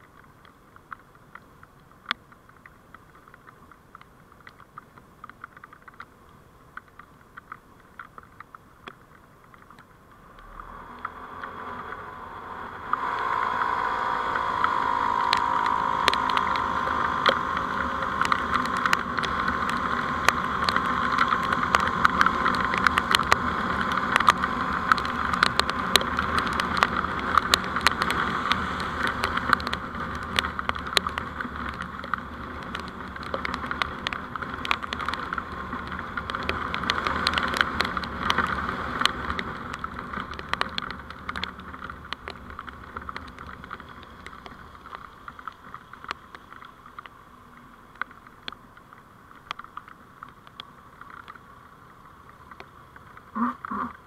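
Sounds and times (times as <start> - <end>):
sharp crackling clicks: 0.0 - 54.0
vehicle driving noise: 0.0 - 54.0.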